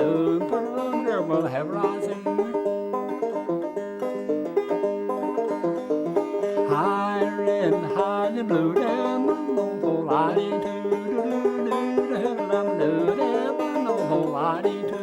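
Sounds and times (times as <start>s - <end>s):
banjo playing lively tune: 0.0s - 15.0s.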